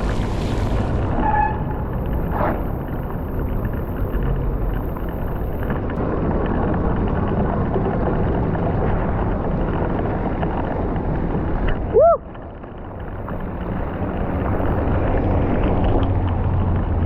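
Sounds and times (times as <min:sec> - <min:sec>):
bicycle tyre noise: 0:00.0 - 0:17.0
rain: 0:00.0 - 0:17.0.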